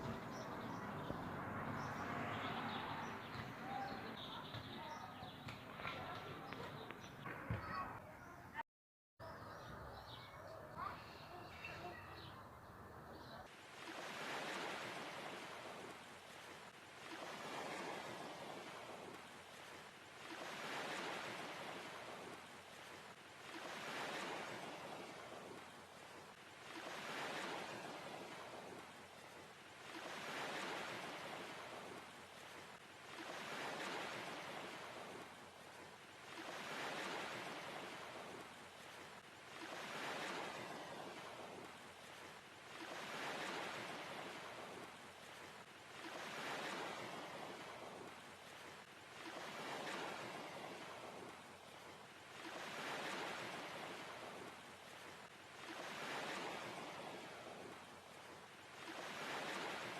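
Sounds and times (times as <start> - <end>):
waves washing in: 0.0 - 7.9, 12.9 - 59.9.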